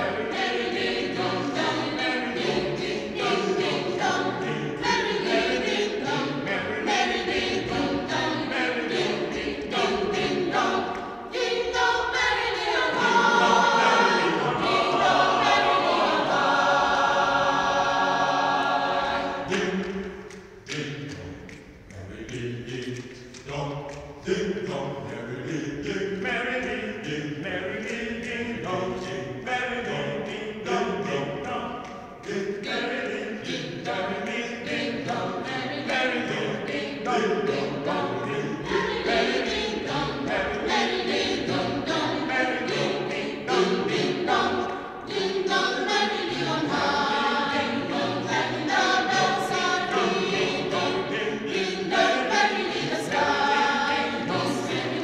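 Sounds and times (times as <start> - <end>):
mixed choir singing unaccompanied: 0.0 - 21.2, 22.1 - 55.0.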